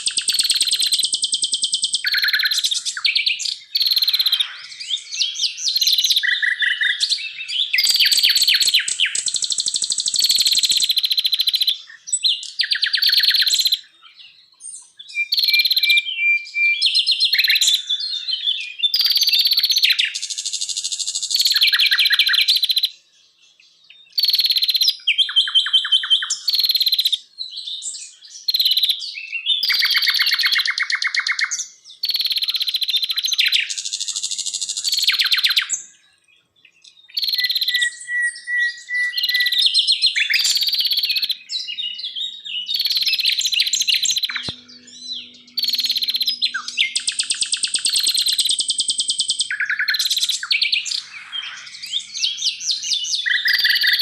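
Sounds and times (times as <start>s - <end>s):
songbird trills and whistles: 0.0s - 54.0s.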